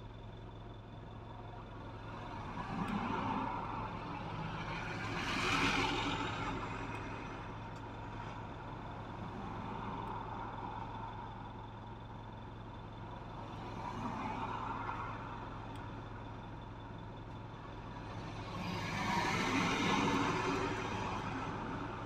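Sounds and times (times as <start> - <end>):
car engine hum: 0.0 - 22.0.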